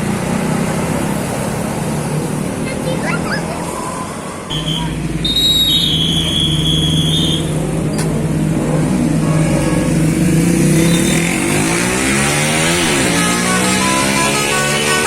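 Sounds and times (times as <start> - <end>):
bus engine revving: 0.0 - 15.0.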